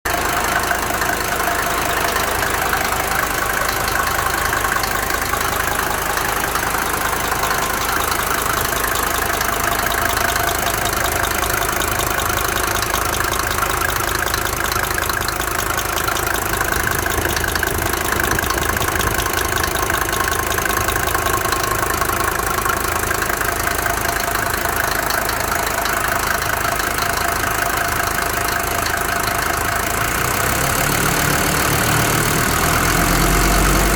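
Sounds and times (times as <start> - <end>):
diesel engine idling with knocking: 0.0 - 33.9.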